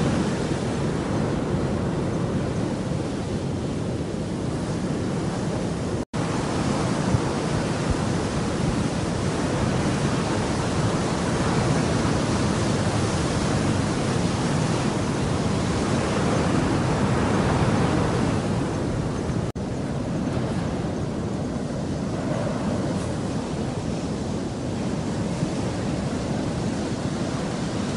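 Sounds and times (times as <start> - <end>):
surf rushing on a beach: 0.0 - 27.9.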